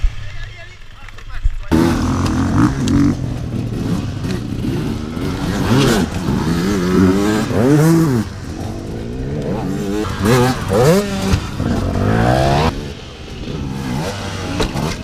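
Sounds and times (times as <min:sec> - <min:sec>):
dirt bike engine revving: 0:01.7 - 0:15.0.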